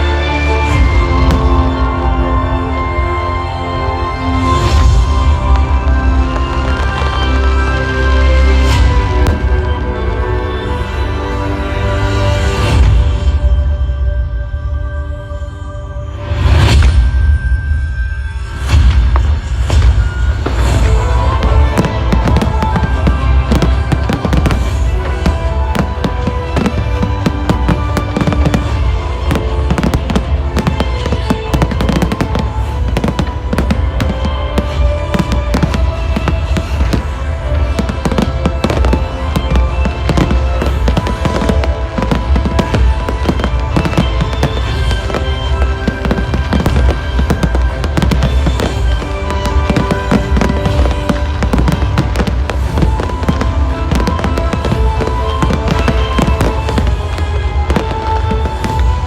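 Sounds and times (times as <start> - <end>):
fireworks bangs and crackles: 0.0 - 14.4, 15.5 - 59.0
loud music: 0.0 - 59.0.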